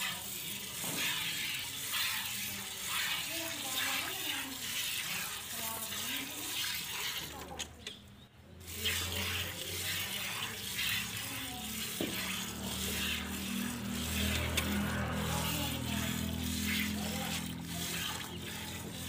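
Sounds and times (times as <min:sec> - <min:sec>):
milk streams hissing into bucket: 0:00.0 - 0:07.9, 0:08.6 - 0:19.0.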